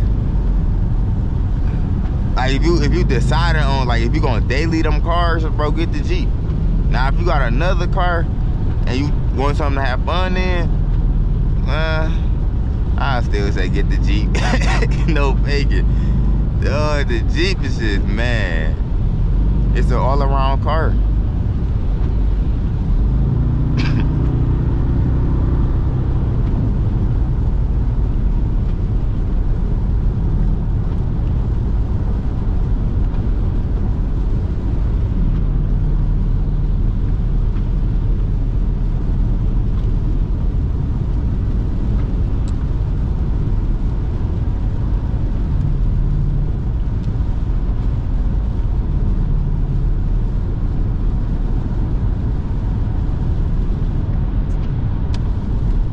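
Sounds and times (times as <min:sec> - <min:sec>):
engine low exhaust rumble: 0:00.0 - 0:55.9.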